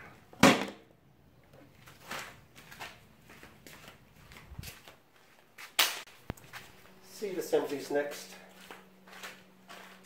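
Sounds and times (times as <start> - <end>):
faint scuffing: 1.6 - 10.0.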